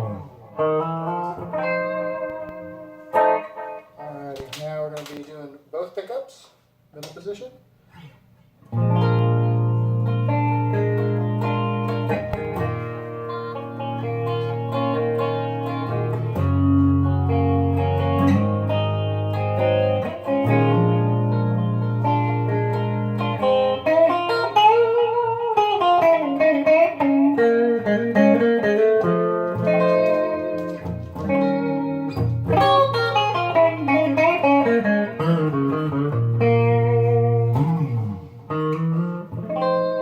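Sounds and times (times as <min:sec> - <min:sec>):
electric guitar chords: 0:00.0 - 0:04.1, 0:08.7 - 0:40.0
electric guitar lead line: 0:00.0 - 0:04.2, 0:08.7 - 0:40.0.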